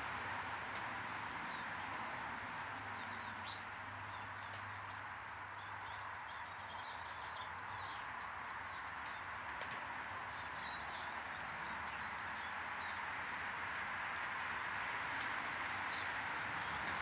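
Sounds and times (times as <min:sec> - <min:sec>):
songbirds chirping: 0:00.6 - 0:17.0.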